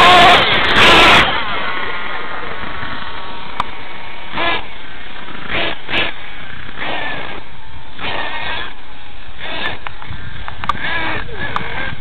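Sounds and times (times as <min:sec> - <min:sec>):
rc truck engine revving: 0:00.0 - 0:12.0
steady noisy background: 0:00.0 - 0:12.0.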